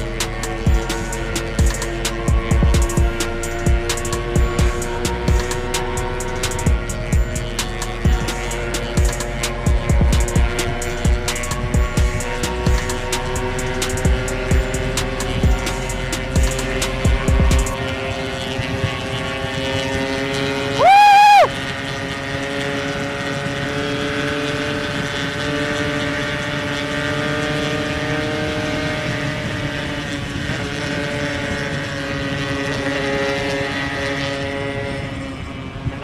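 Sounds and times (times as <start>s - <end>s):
two-stroke motorcycle engine running: 0.0s - 36.0s.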